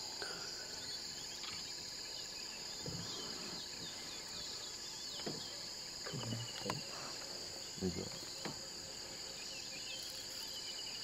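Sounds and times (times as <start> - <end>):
shrill insect chorus: 0.0 - 11.0.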